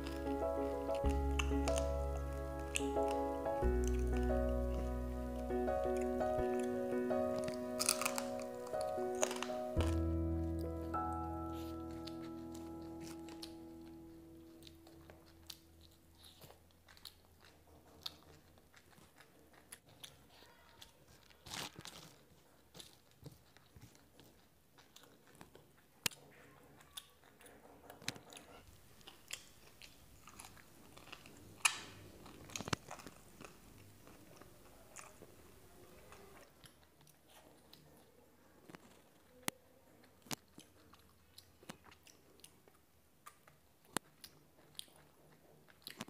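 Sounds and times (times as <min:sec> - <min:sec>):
person chewing crunchy food: 0:00.0 - 0:39.4, 0:40.0 - 0:46.0.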